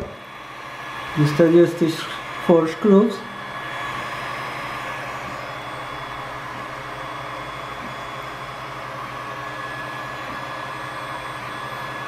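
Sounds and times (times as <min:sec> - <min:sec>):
cooling fans whirring: 0:00.0 - 0:12.0
faint whining motor tones: 0:00.0 - 0:12.0.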